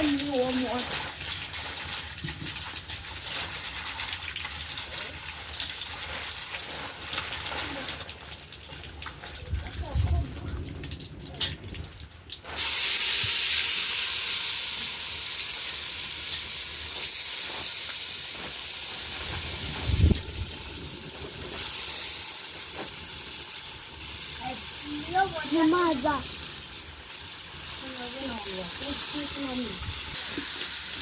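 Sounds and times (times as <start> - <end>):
fish sizzling in hot oil: 0.0 - 31.0.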